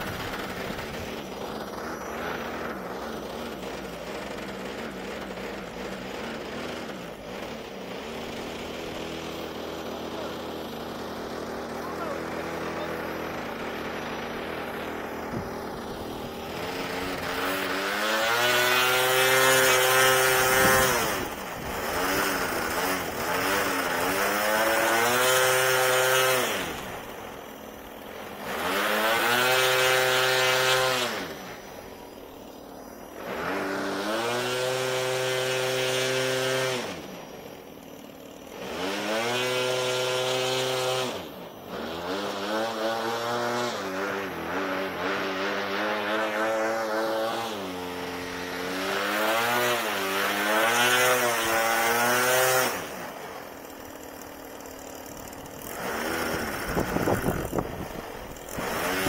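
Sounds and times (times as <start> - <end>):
model airplane motor whining: 0.0 - 59.0.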